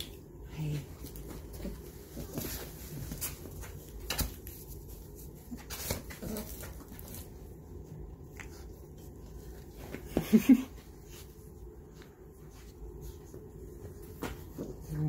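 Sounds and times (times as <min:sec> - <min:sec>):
soft rustles: 0:00.5 - 0:15.0.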